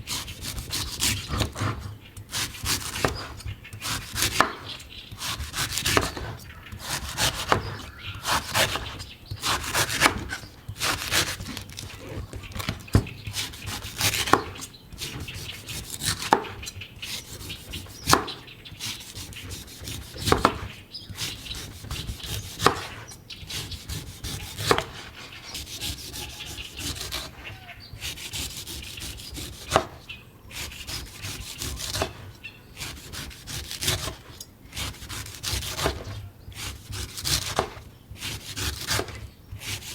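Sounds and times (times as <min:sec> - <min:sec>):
knife chopping coconut husk: 0:00.1 - 0:39.9.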